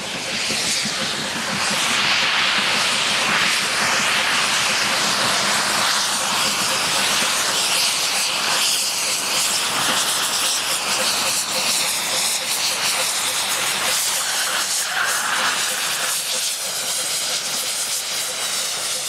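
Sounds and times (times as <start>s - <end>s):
steam locomotive exhaust rush: 0.0s - 19.0s.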